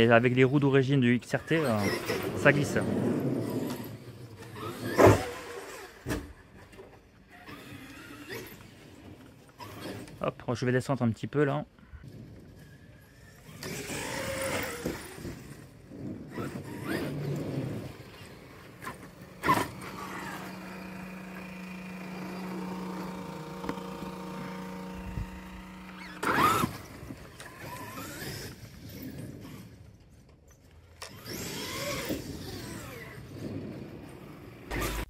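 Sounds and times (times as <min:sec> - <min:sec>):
electric rc truck motor whine: 0:01.4 - 0:10.2, 0:11.8 - 0:35.0.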